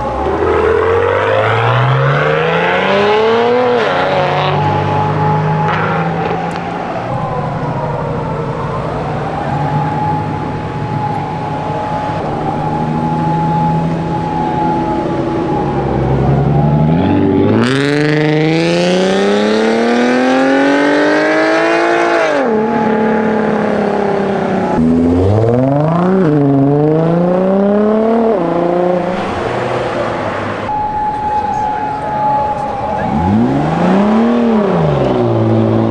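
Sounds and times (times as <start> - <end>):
car engine accelerating: 0.0 - 35.9.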